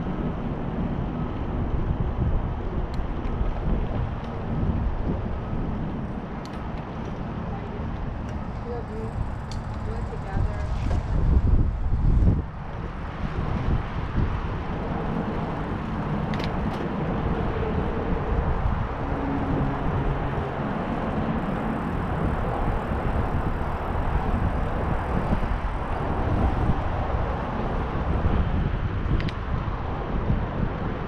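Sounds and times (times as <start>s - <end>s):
bicycle running rumble: 0.0s - 31.0s
wind buffeting microphone: 0.0s - 31.0s.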